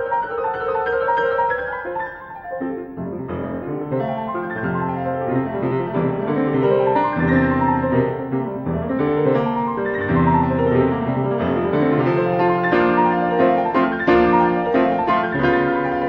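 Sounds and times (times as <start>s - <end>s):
grand piano playing fast: 0.0s - 16.0s.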